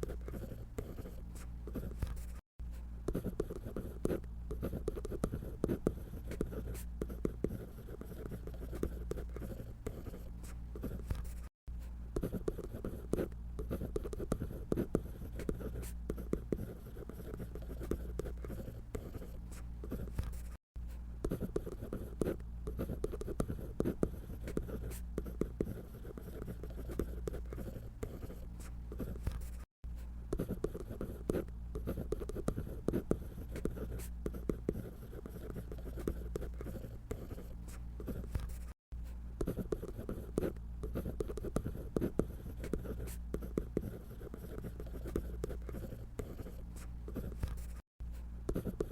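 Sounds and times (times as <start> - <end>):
drawing tool scratching paper: 0.0 - 2.4, 3.1 - 11.5, 12.2 - 20.6, 21.2 - 29.7, 30.3 - 38.8, 39.4 - 47.8, 48.5 - 48.9.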